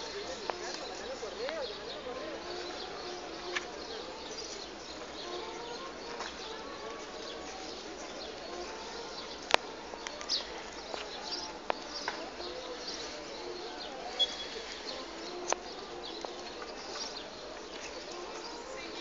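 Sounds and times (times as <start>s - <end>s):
birds chirping and cooing: 0.0s - 19.0s.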